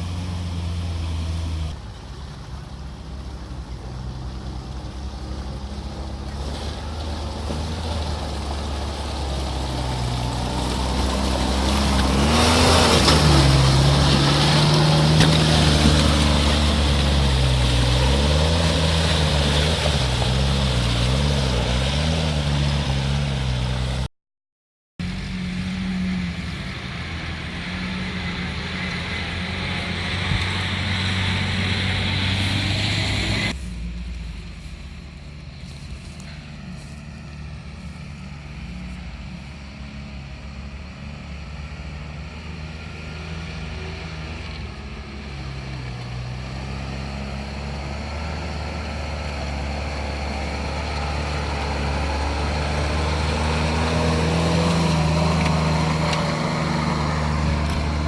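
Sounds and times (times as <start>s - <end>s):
off-road vehicle engine revving: 0.0s - 1.8s, 3.2s - 24.1s, 25.0s - 58.0s.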